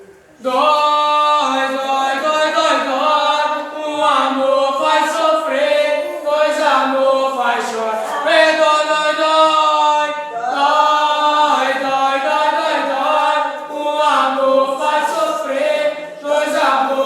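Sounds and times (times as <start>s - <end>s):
group of voices chanting: 0.4s - 17.0s.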